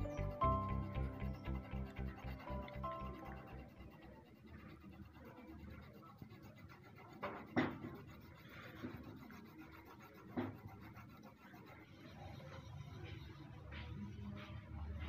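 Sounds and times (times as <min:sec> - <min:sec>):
pencil shading on cardboard: 0:00.0 - 0:15.0.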